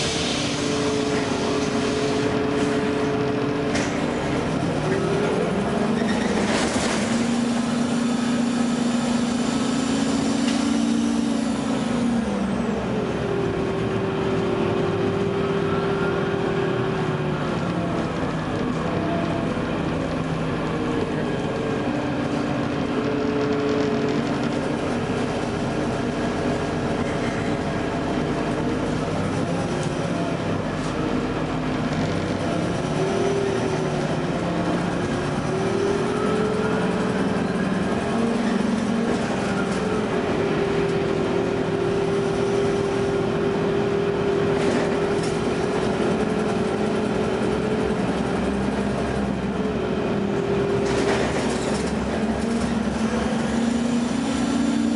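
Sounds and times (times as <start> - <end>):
bus engine rumble: 0.0 - 54.9.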